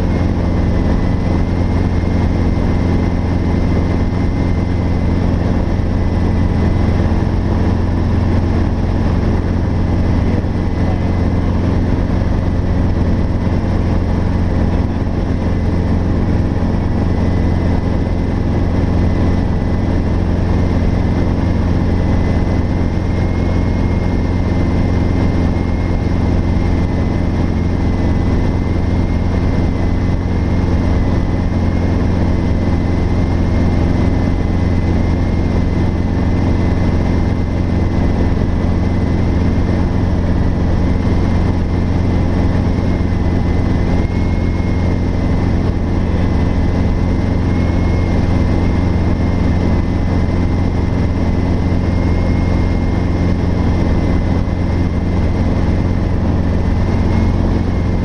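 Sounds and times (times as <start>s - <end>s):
helicopter cabin hum: 0.0s - 58.0s.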